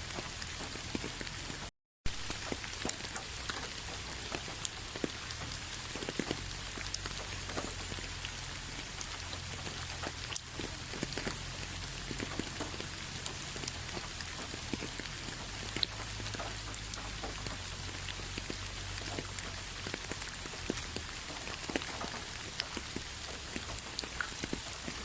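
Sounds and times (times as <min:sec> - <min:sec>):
rain falling: 0:00.0 - 0:25.0
raindrops ticking close by: 0:00.0 - 0:25.0.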